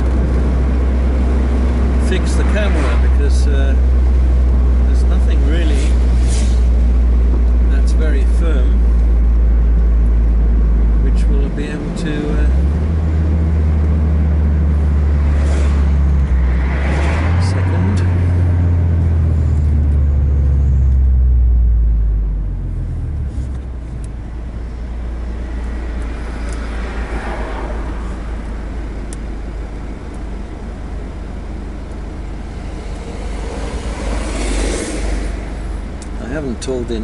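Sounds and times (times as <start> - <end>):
car engine droning: 0.0 - 37.0
road and wind noise: 0.0 - 37.0.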